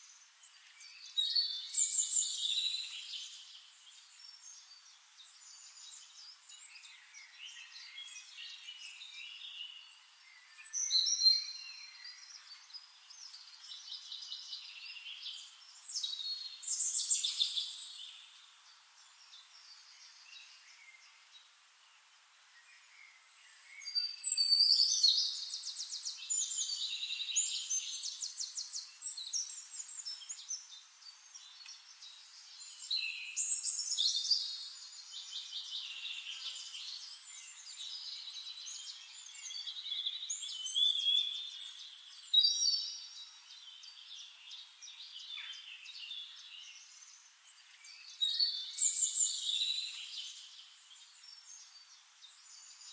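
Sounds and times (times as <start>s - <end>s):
songbirds chirping and trilling: 0.0s - 52.9s.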